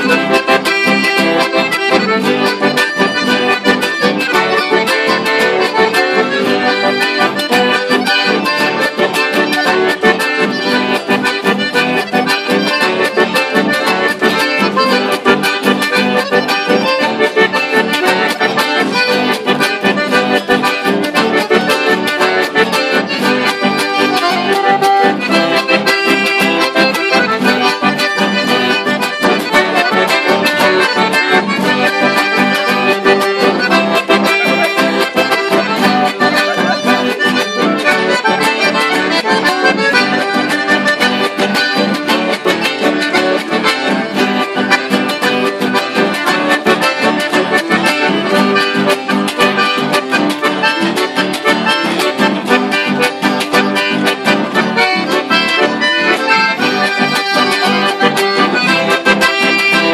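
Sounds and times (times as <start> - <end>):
accordions playing: 0.0 - 59.9
acoustic guitar: 0.0 - 59.9.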